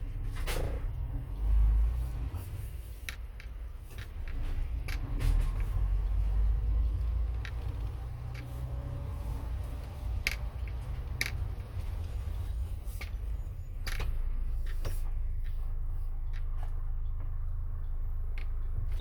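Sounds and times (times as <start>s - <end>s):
van driving on road from inside: 0.0s - 19.0s
sharp clicks and rattles: 2.4s - 19.0s.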